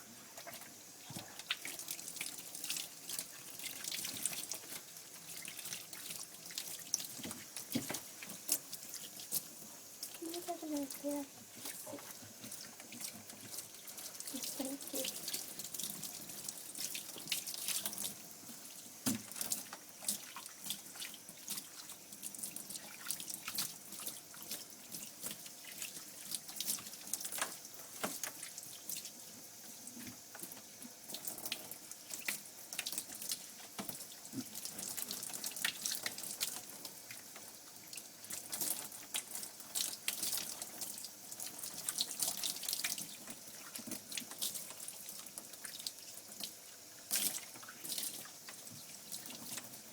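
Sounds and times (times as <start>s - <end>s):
shower water splashing on dog: 0.0s - 49.9s.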